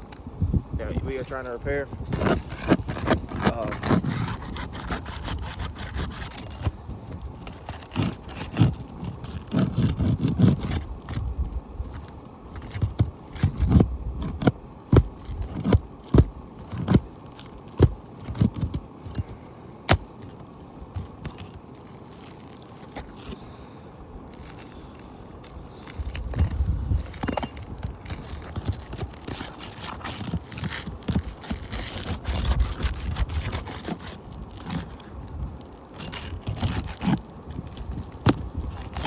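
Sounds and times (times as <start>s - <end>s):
roof shingle scraping: 0.8s - 23.7s, 24.3s - 39.0s.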